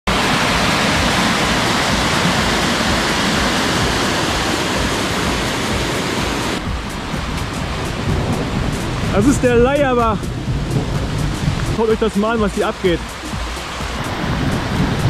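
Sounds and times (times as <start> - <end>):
flooded stream rushing: 0.0 - 15.0.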